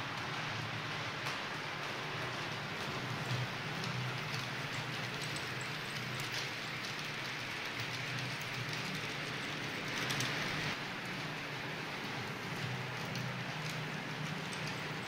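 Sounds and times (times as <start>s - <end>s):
model train wheels rattling on rail: 2.1s - 15.0s.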